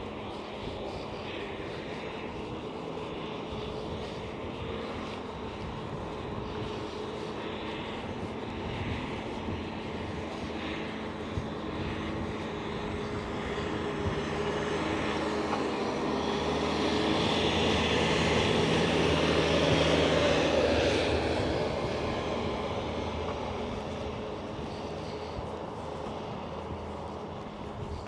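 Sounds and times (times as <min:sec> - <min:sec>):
airplane flying over: 0:00.0 - 0:28.0.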